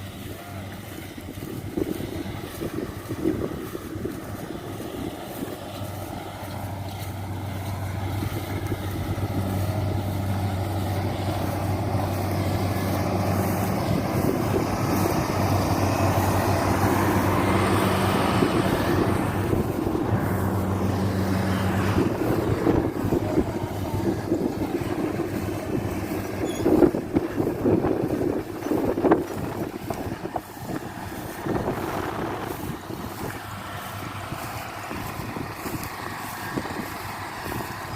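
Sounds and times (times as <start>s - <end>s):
harvester engine droning: 0.0s - 37.9s
wind noise on microphone: 0.0s - 37.9s.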